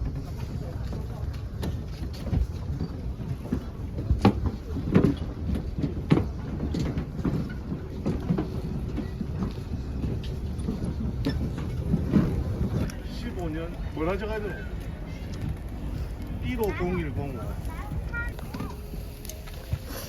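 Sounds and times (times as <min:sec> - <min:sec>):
low mechanical rumble: 0:00.0 - 0:20.0.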